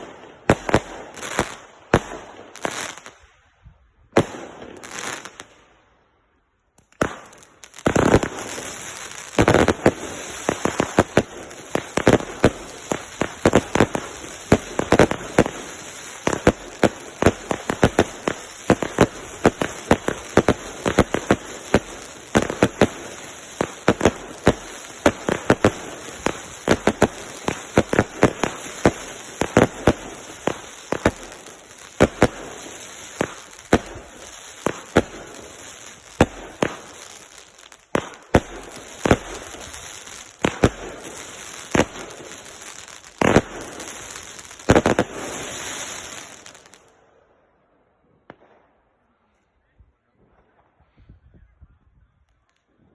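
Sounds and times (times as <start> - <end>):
fireworks bangs and cracks: 0.0 - 3.2, 4.1 - 5.6, 6.8 - 46.9.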